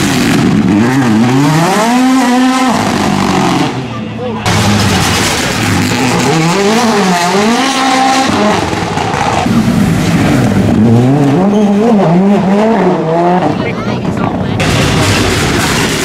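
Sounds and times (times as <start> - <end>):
rally car engine revving: 0.0 - 16.0
tyre noise on tarmac: 0.0 - 16.0.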